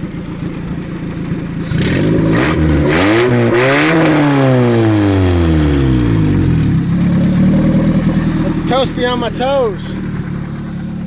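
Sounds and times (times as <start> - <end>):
car engine revving: 0.1 - 11.0.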